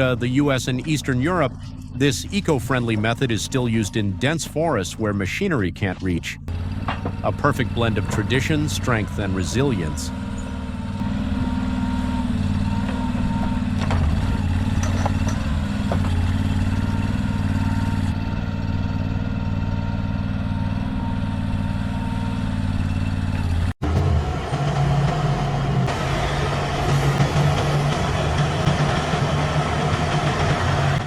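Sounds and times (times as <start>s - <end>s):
heavy truck engine idling: 0.0s - 31.0s
vehicle engine running: 0.0s - 31.0s.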